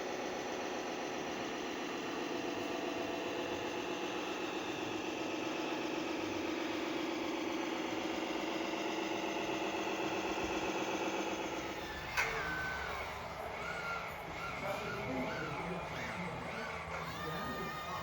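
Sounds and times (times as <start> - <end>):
model motor running: 0.0 - 18.0.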